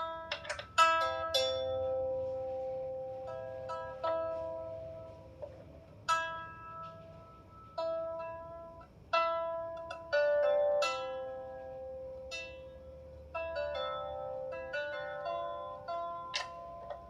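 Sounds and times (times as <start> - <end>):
lyre harp being plucked: 0.0 - 17.0.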